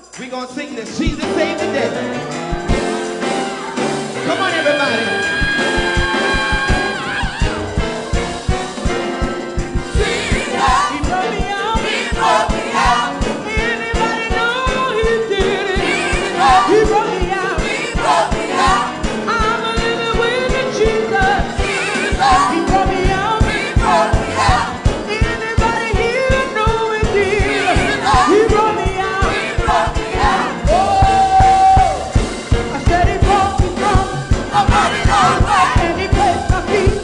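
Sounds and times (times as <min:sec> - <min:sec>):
steady drum beat: 0:00.7 - 0:37.0
gospel choir singing: 0:01.8 - 0:37.0.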